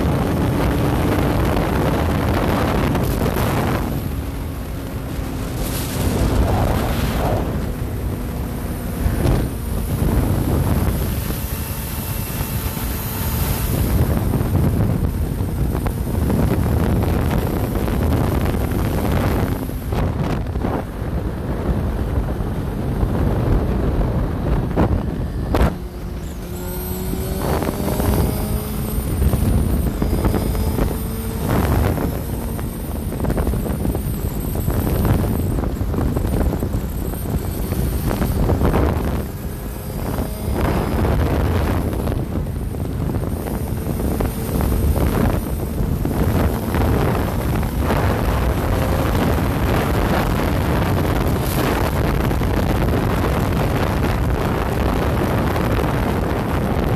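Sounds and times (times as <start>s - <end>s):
motorcycle engine: 0.0s - 56.9s
passing traffic: 0.0s - 56.9s
wind buffeting microphone: 0.0s - 56.9s.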